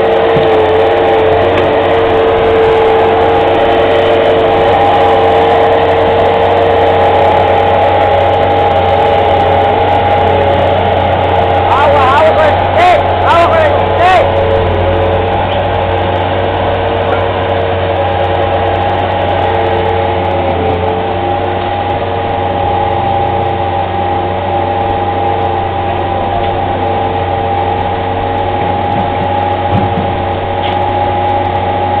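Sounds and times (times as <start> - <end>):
high whine: 0.0 - 32.0
loader engine running: 0.0 - 32.0.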